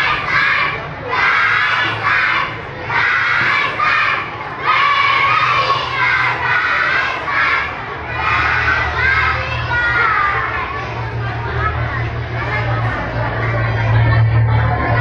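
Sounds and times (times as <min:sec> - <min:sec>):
children shouting and cheering: 0:00.0 - 0:15.0.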